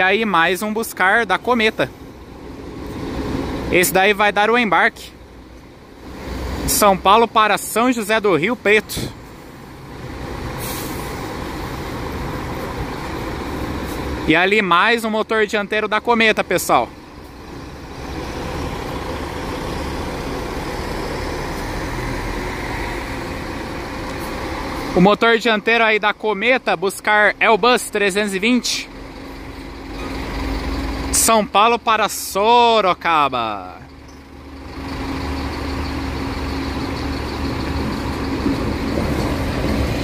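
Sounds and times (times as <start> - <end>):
diesel coach engine rumble: 0.0 - 40.0.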